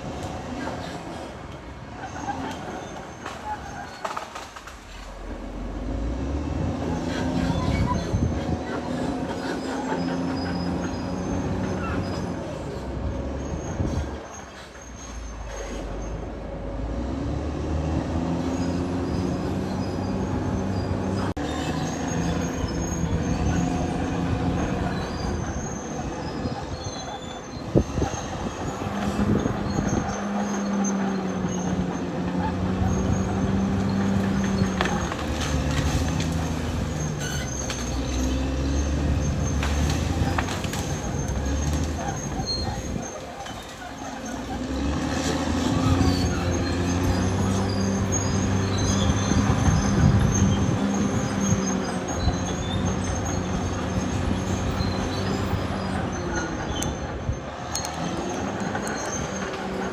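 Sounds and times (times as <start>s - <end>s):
bulldozer diesel engine: 0.0s - 59.9s
steel tracks squealing and clanking: 0.0s - 59.9s.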